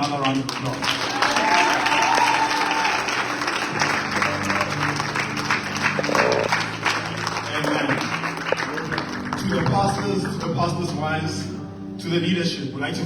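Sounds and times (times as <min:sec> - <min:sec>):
congregation applauding: 0:00.0 - 0:11.6
instrumental music: 0:01.8 - 0:13.0.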